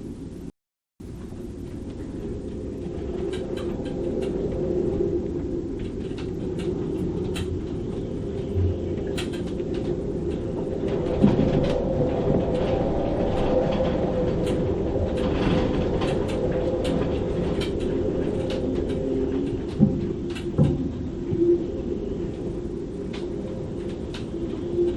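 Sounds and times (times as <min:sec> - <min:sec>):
storm wind roaring in rigging: 0:00.0 - 0:24.9.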